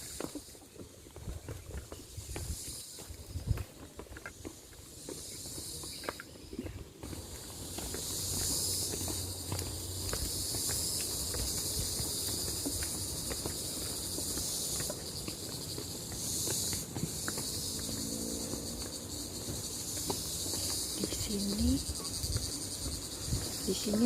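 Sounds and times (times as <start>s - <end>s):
footsteps on a trail: 0.0s - 24.0s
high-pitched insect chorus: 0.0s - 24.0s.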